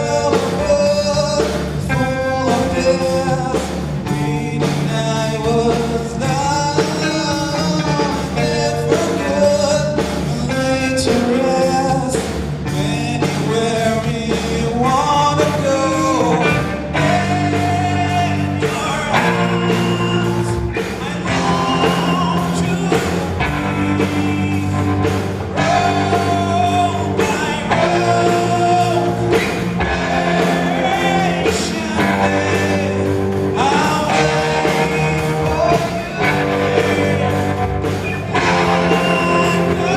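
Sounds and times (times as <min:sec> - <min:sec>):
bass guitar: 0:00.0 - 0:39.9
drums: 0:00.0 - 0:39.9
electric guitar: 0:00.0 - 0:39.9
person singing: 0:00.0 - 0:39.9.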